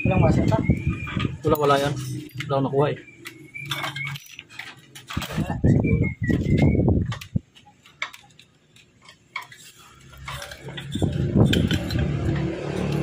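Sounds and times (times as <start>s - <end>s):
metal parts ticking and clinking: 0.9s - 13.0s.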